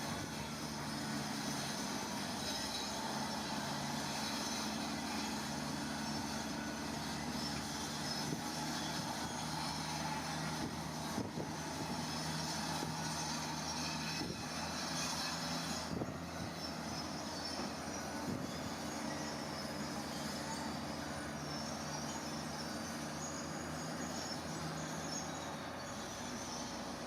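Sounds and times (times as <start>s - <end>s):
heavy diesel machinery running: 0.0s - 27.0s
high-pitched squeal: 0.0s - 27.0s.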